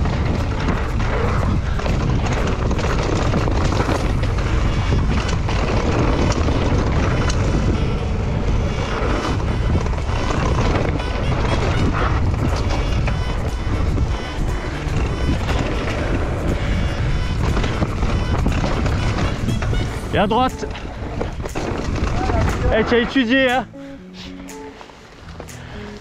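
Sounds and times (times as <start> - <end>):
bike rattling and clicking: 0.0 - 23.7, 24.5 - 26.0
wind rushing over microphone: 0.0 - 23.8.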